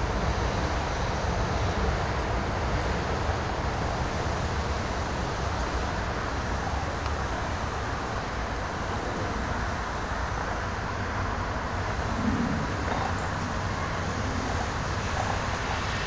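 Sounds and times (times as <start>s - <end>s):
city background noise: 0.0s - 16.0s
diesel locomotive rumble: 0.0s - 16.0s.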